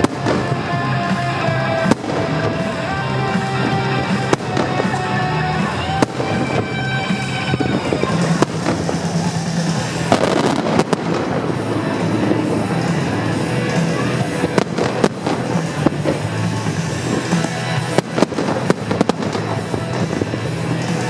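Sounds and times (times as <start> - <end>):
fireworks bangs: 0.0 - 21.0
music playing: 0.0 - 21.0.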